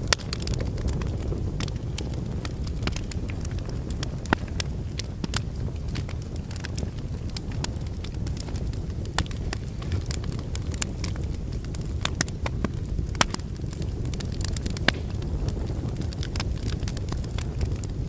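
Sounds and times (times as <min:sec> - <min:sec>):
logs crackling and popping: 0:00.0 - 0:18.0
low rumble of fire flames: 0:00.0 - 0:18.0.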